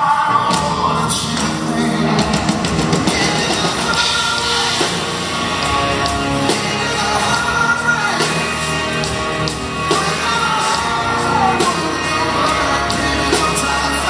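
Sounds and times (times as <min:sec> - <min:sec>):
drums: 0:00.0 - 0:14.0
electric guitar: 0:00.0 - 0:14.0
man singing: 0:00.0 - 0:14.0.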